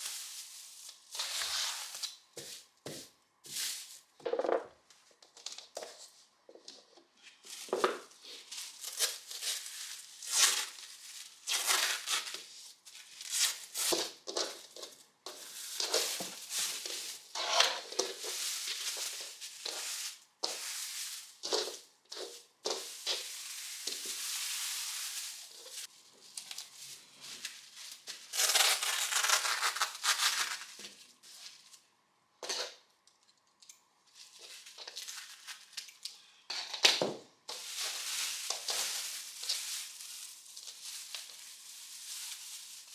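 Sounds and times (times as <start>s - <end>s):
scraping and rustling handling noises: 0.0s - 32.7s, 34.1s - 42.9s.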